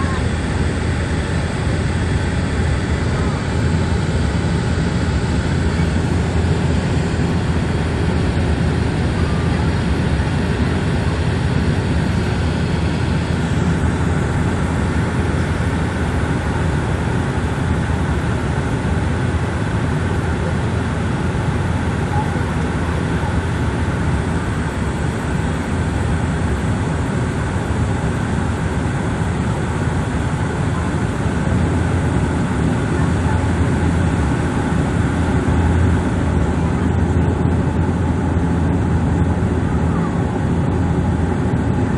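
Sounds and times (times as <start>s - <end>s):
air rushing along fuselage: 0.0s - 41.9s
turboprop cabin drone: 0.0s - 41.9s.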